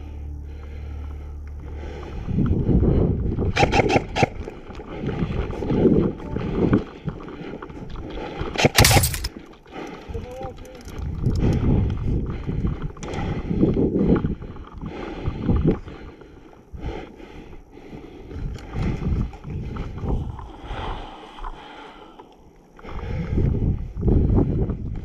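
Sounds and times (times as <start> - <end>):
wind rumbling on microphone: 1.7 - 9.4, 10.0 - 22.0, 22.7 - 25.0.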